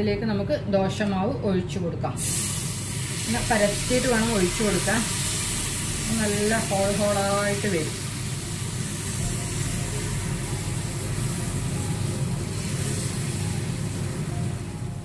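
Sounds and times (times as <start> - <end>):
batter sizzling on a griddle: 2.2 - 15.0.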